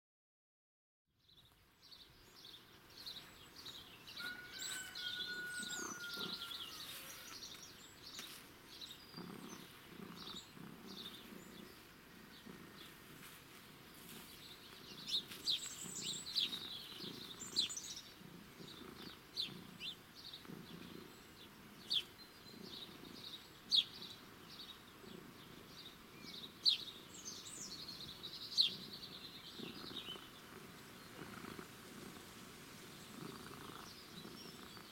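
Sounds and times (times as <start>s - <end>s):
small birds chirping: 1.2s - 34.9s
cat purring: 5.5s - 6.6s, 7.4s - 34.9s.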